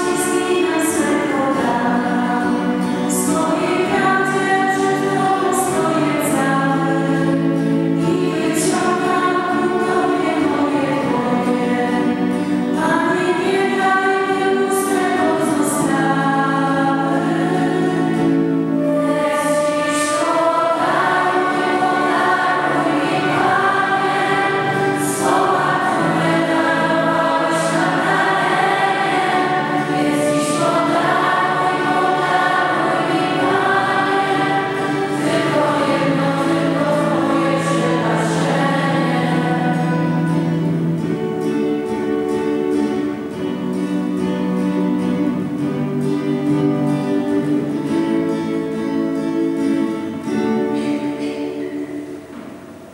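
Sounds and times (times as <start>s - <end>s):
choir singing a hymn: 0.0s - 52.9s.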